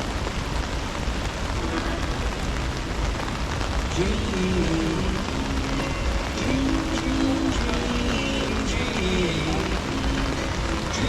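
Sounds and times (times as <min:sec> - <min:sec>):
heavy rain pattering: 0:00.0 - 0:11.0.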